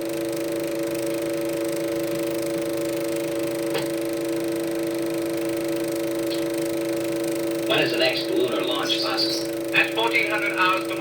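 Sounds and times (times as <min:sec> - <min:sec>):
film projector humming: 0:00.0 - 0:11.0.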